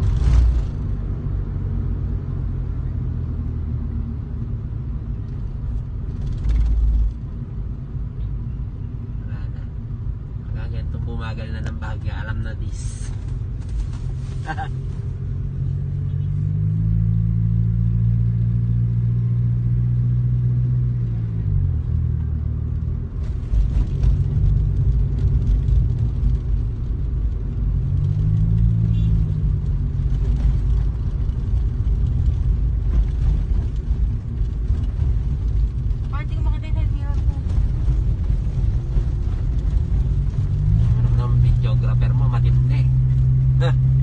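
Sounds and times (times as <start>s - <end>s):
car engine hum: 0.0s - 44.0s
road rumble: 0.0s - 44.0s.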